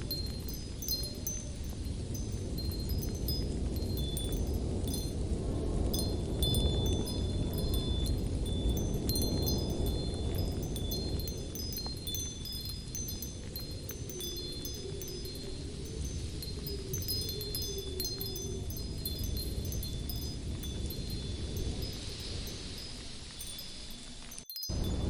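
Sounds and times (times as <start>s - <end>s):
light wind rumble: 0.0s - 25.0s
wind chimes ringing: 0.0s - 25.0s.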